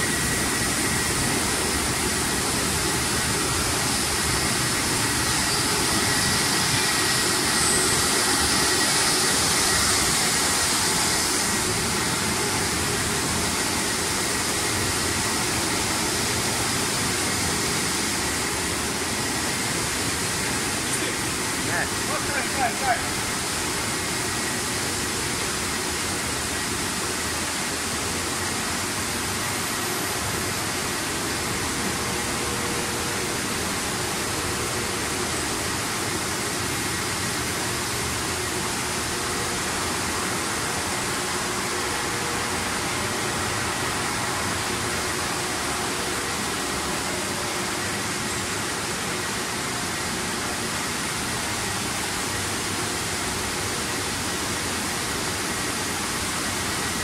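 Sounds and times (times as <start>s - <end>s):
steady rushing machine noise: 0.0s - 57.0s.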